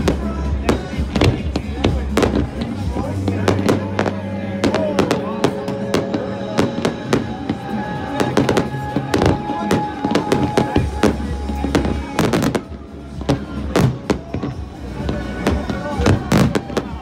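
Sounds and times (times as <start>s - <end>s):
fireworks bursting with bangs: 0.0s - 17.0s
music playing: 0.0s - 17.0s.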